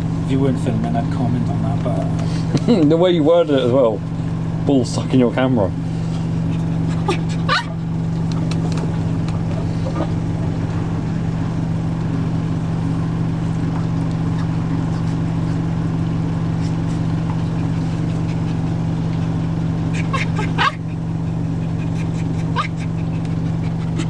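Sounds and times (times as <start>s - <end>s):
drain pump hum: 0.0s - 24.0s
washing machine spinning: 0.0s - 24.0s.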